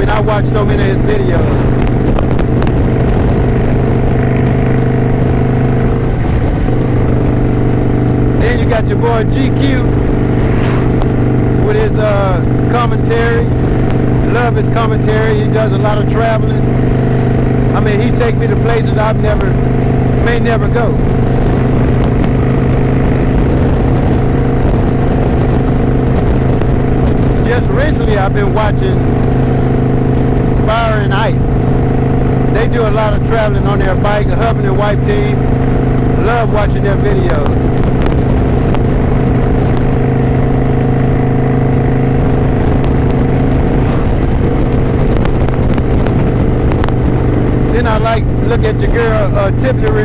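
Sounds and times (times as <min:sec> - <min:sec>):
motorcycle engine cruising: 0:00.0 - 0:50.0
wind noise on microphone: 0:00.0 - 0:50.0.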